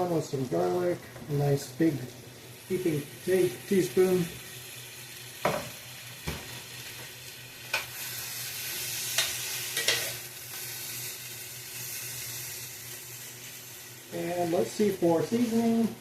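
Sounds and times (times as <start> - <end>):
potatoes sizzling in frying pan: 0.0 - 16.0.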